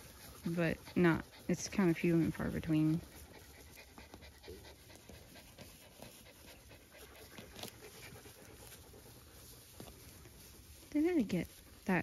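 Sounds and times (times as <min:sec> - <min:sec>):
dog panting: 0:00.0 - 0:10.9.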